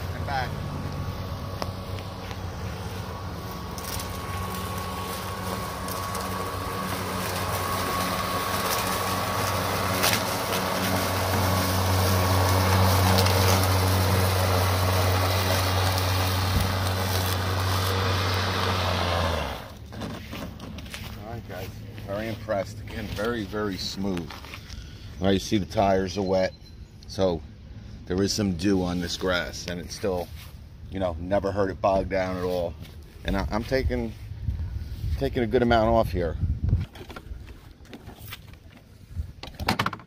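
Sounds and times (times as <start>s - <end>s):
lawn mower cutting grass: 0.0s - 26.0s, 27.7s - 36.2s.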